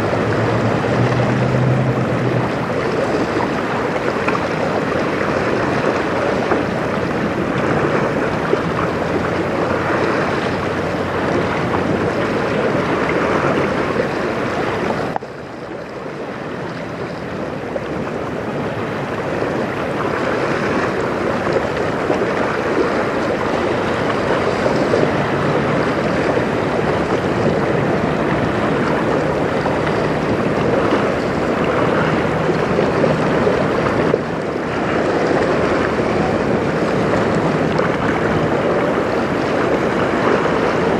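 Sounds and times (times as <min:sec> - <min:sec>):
river water lapping at shore: 0:00.0 - 0:40.9
wind buffeting microphone: 0:00.0 - 0:40.9.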